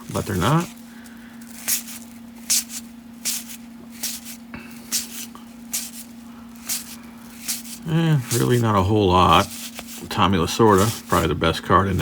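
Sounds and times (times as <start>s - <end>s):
low electrical hum: 0.0s - 12.0s
cards sliding with papery swish: 1.4s - 12.0s.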